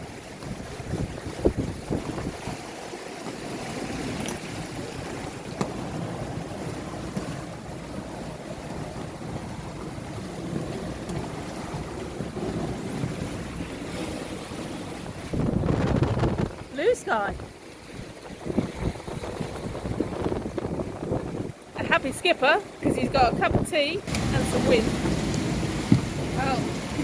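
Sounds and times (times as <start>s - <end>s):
water rushing along hull: 0.0s - 27.0s
wind buffeting microphone: 0.0s - 27.0s.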